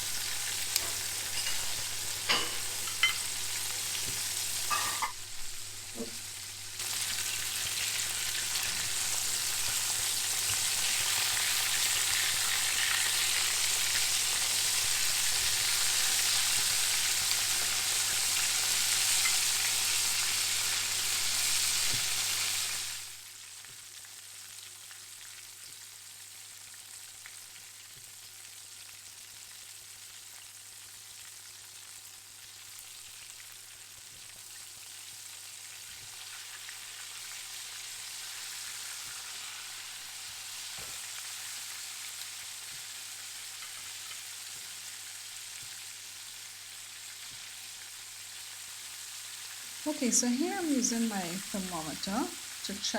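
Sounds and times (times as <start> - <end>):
chicken sizzling in hot oil: 0.0 - 52.9.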